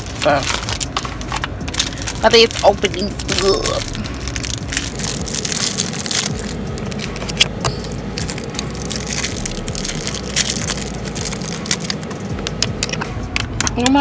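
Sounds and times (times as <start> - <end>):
package wrapping crackling: 0.0 - 13.0.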